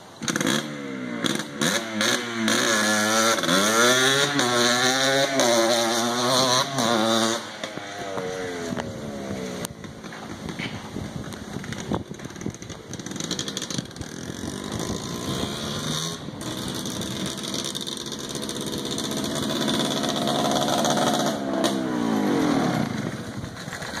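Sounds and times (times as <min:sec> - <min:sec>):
quad bike engine approaching: 0:00.2 - 0:24.0.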